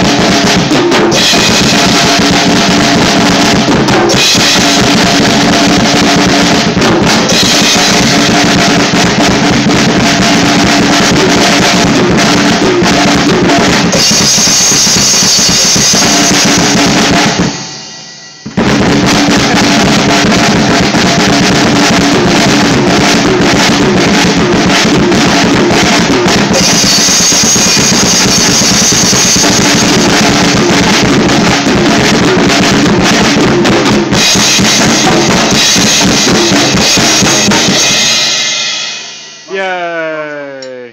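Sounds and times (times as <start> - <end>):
drum kit playing: 0.0 - 40.9.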